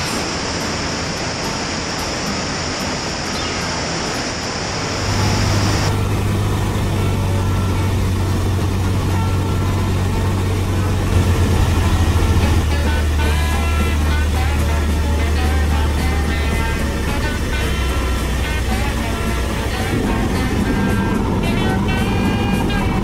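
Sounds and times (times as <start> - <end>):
light aircraft engine drone: 0.0 - 23.0.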